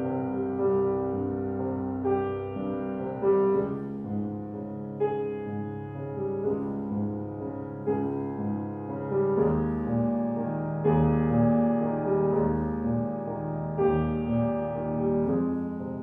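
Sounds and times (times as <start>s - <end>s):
piano piece: 0.0s - 16.0s.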